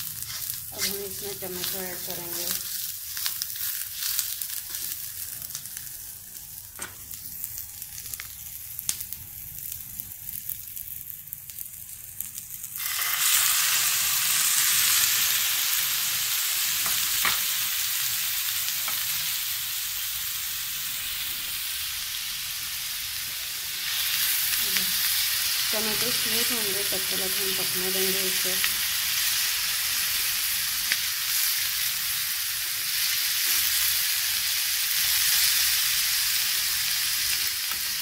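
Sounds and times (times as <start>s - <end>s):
onions sizzling in a pan: 0.0s - 38.0s
tomatoes sizzling loudly in a pan: 0.0s - 38.0s.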